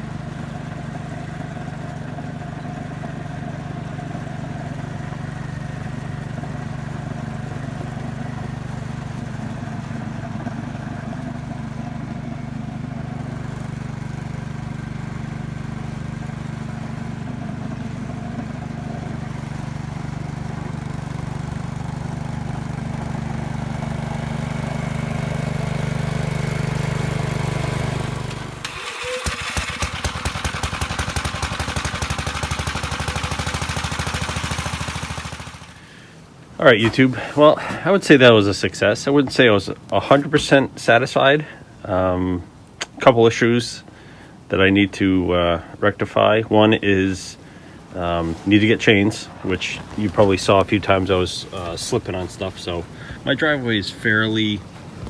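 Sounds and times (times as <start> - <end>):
engine idling with popping beats: 0.0 - 55.0
snowblower engine running: 0.0 - 55.0.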